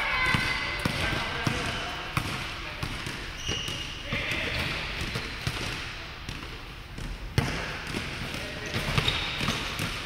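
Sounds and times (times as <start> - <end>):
basketball bouncing on wooden floor: 0.3 - 10.0.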